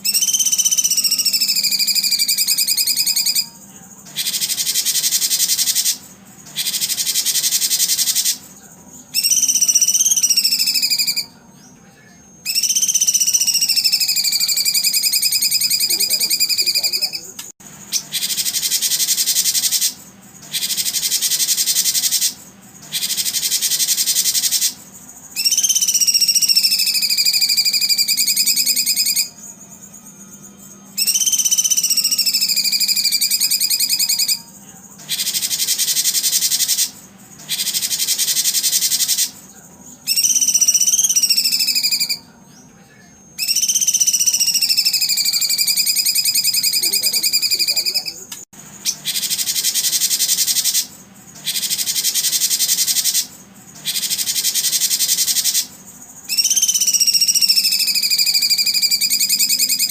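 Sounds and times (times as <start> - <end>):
songbird whistled notes: 0.0 - 59.9.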